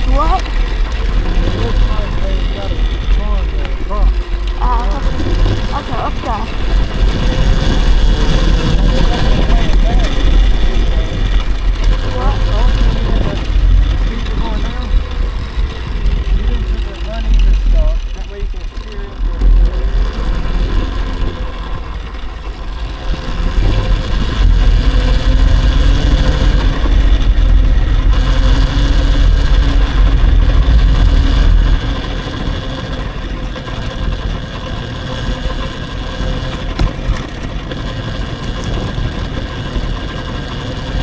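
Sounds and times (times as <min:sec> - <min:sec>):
electric motor whine: 0:00.0 - 0:41.0.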